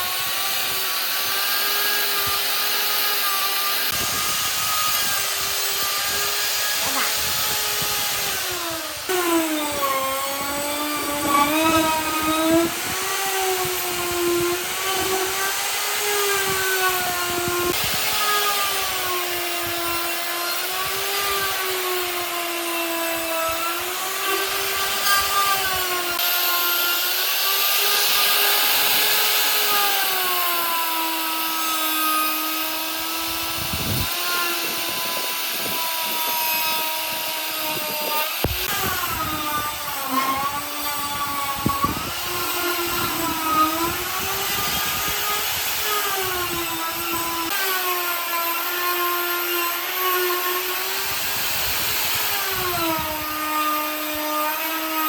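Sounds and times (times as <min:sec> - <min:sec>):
power tool motor whine: 0:00.0 - 0:55.0.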